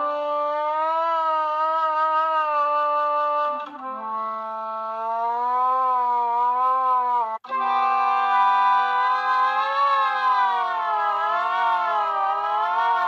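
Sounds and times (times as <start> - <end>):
synthesized wind-instrument tone: 0.0 - 13.0.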